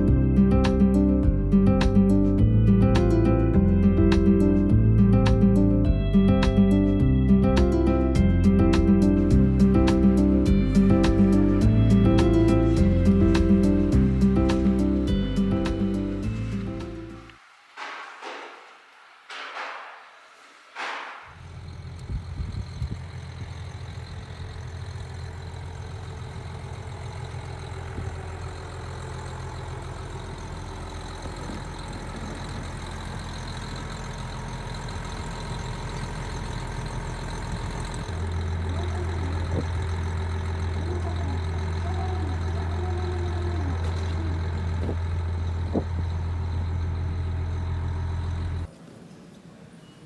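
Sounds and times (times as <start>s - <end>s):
diesel engine idling: 0.0s - 48.7s.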